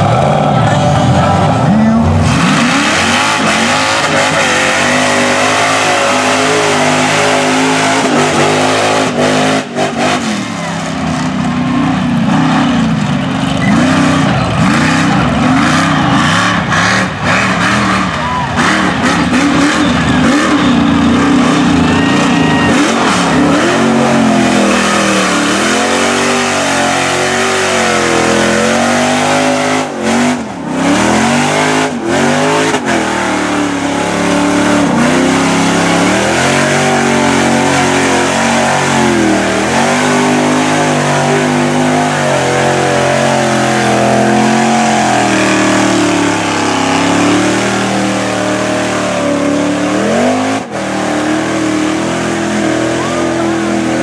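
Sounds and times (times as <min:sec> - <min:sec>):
tires churning through mud: 0:00.0 - 0:54.0
truck engine revving: 0:00.0 - 0:54.0.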